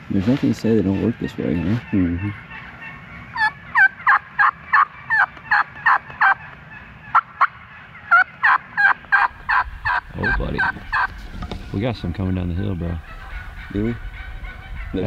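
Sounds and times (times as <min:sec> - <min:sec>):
turkey yelping: 0:00.9 - 0:11.3, 0:12.2 - 0:15.0.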